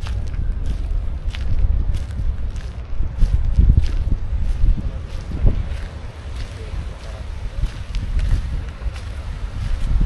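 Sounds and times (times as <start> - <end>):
footsteps walking: 0.0 - 10.0
wind buffeting microphone: 0.0 - 10.0.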